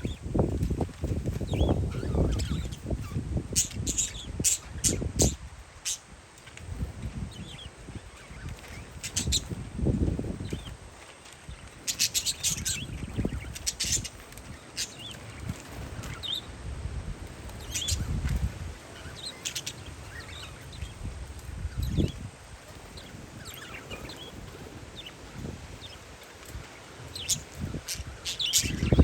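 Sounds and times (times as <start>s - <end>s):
parakeets chirping: 0.0s - 16.6s, 17.3s - 29.0s
wind on microphone: 0.0s - 29.0s.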